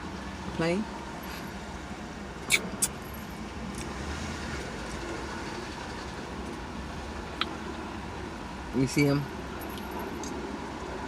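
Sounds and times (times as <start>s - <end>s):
engine rumble of passing traffic: 0.0s - 11.0s.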